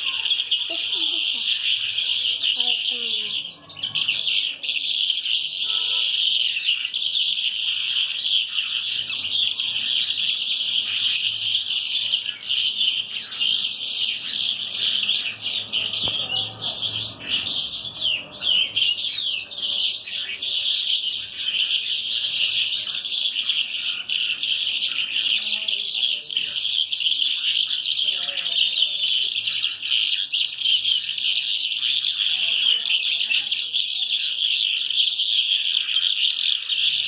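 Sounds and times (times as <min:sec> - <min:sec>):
caged birds chirping chorus: 0:00.0 - 0:37.0.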